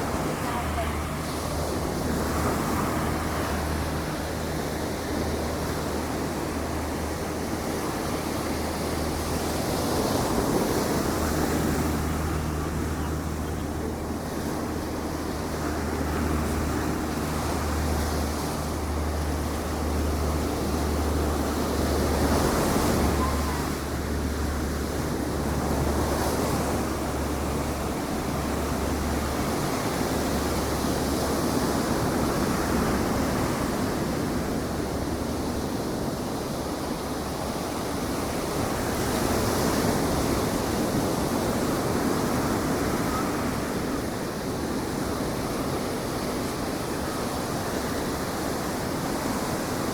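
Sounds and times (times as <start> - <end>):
ocean surf washing onto beach: 0.0 - 49.9.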